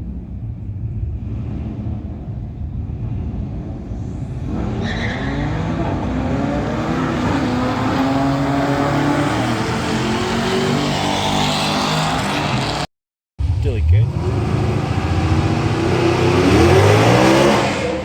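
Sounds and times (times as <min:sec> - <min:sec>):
car engine revving and accelerating: 0:00.0 - 0:18.0.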